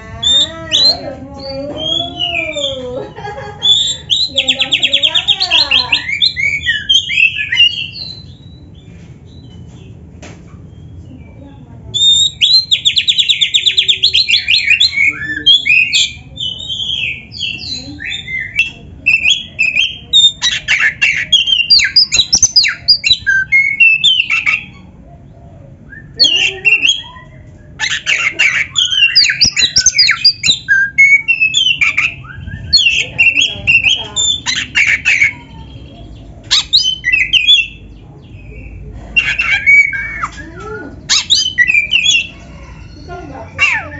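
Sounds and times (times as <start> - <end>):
songbird whistling and trilling: 3.6 - 9.6, 10.8 - 24.9, 25.8 - 43.9.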